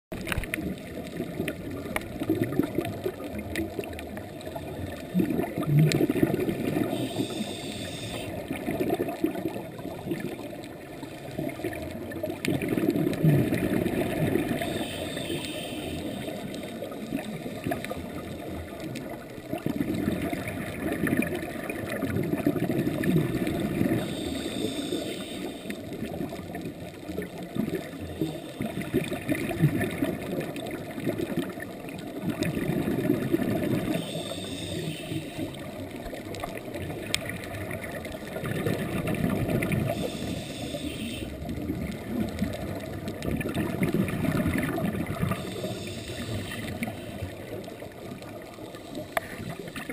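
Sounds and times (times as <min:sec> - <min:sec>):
bubbling exhaled air: 0:00.2 - 0:49.9.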